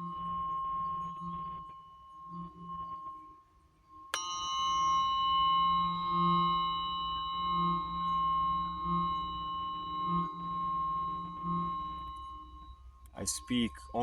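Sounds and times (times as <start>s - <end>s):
singing bowl ringing: 0.0s - 14.0s
singing bowl struck: 0.0s - 14.0s.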